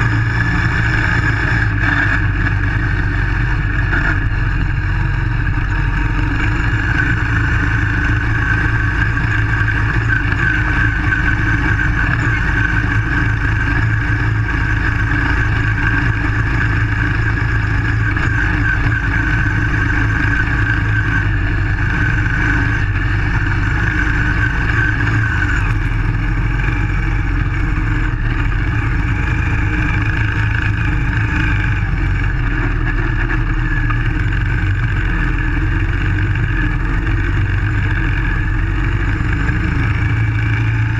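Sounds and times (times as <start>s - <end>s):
buggy engine running: 0.0s - 40.9s.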